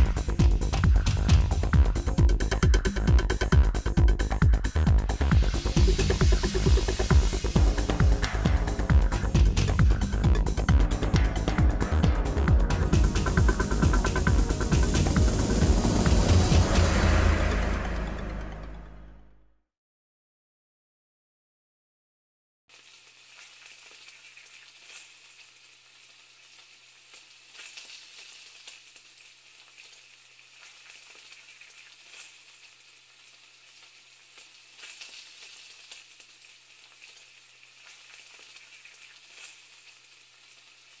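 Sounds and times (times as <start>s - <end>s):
loud frying pops: 0.0s - 17.8s, 22.7s - 41.0s
food sizzling in a pan: 0.0s - 18.0s, 22.7s - 41.0s.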